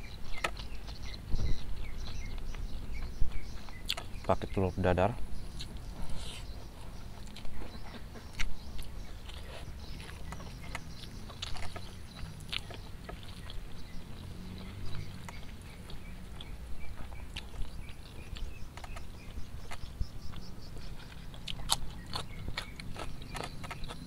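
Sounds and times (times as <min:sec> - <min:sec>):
close chewing with lip smacks: 0:00.0 - 0:04.6, 0:05.3 - 0:24.0.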